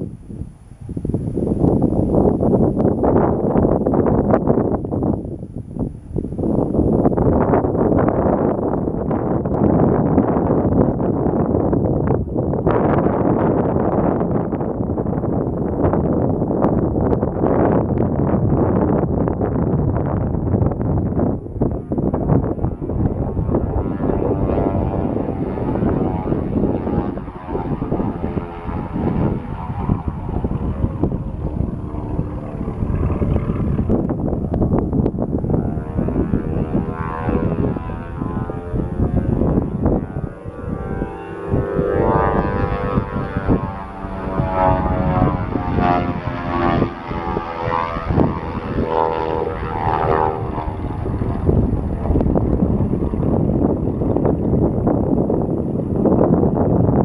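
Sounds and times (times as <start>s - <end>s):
propeller plane engines droning: 0.0s - 57.0s.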